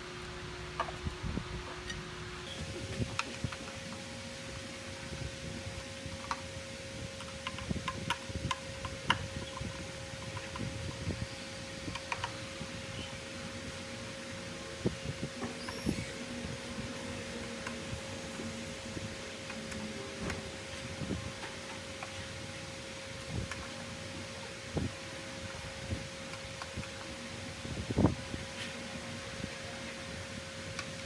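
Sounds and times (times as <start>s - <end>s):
steady hum: 0.0s - 31.0s.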